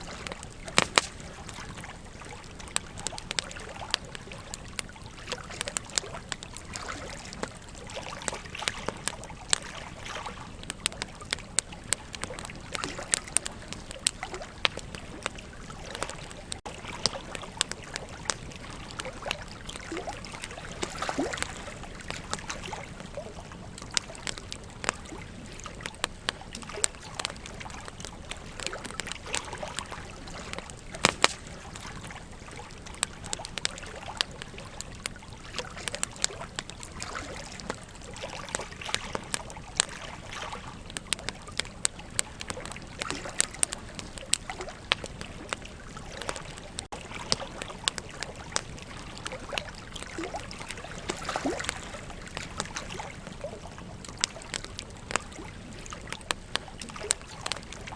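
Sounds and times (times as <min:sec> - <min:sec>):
campfire crackling: 0:00.0 - 0:57.9
river water flowing: 0:00.0 - 0:57.9.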